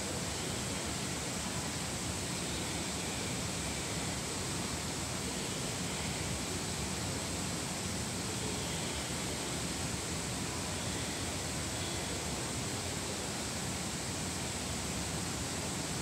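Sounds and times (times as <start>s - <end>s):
hiss-like background noise: 0.0s - 16.0s.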